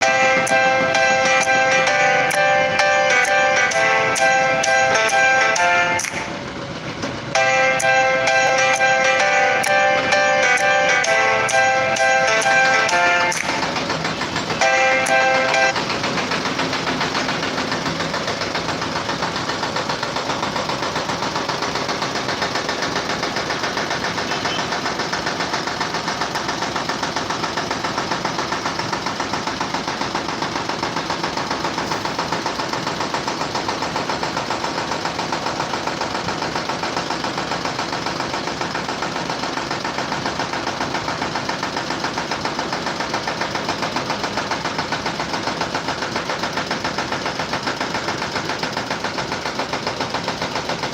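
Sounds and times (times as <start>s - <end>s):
machine pulsing steadily: 0.0s - 50.9s.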